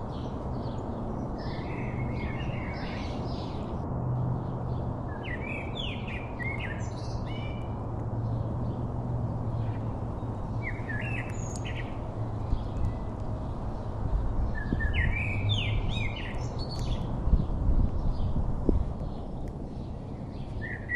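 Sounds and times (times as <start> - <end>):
small songbirds chirping: 0.0 - 20.9.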